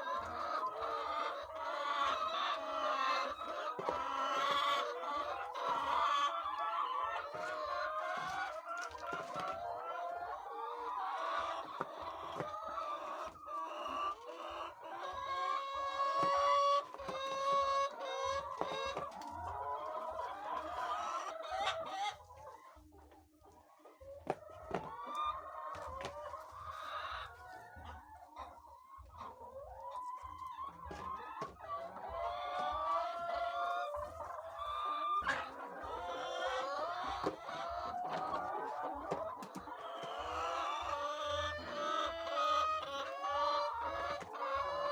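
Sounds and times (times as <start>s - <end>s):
hens clucking and cackling: 0.0s - 44.9s.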